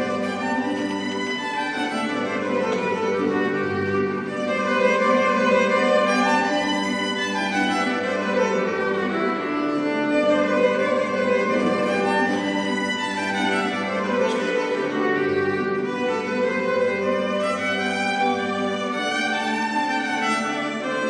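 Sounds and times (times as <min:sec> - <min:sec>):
violin melody: 0:00.0 - 0:21.0.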